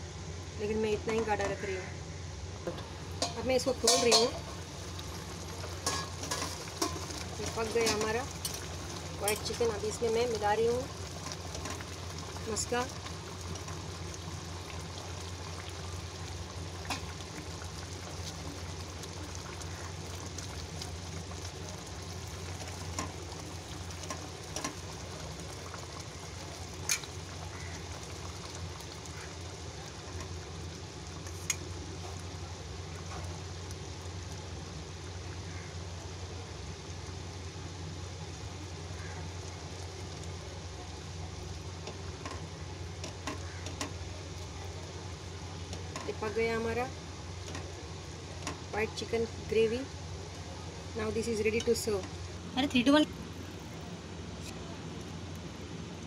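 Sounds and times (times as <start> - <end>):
gravy bubbling: 2.6 - 56.0.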